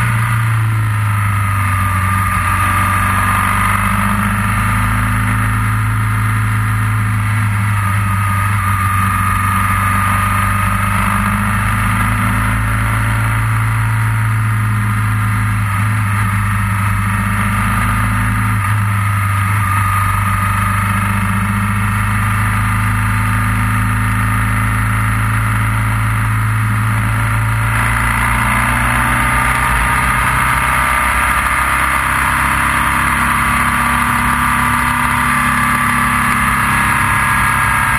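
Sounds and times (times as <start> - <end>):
motorcycle engine running: 0.0 - 37.9
wind and road noise: 0.0 - 37.9.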